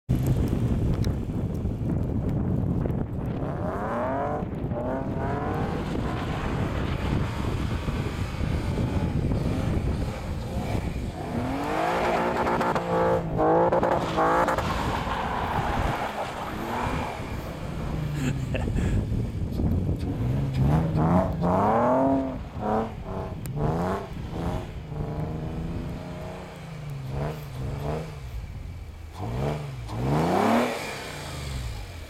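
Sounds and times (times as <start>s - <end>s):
car engine revving hard: 3.3s - 19.1s, 20.0s - 28.4s, 29.1s - 32.0s.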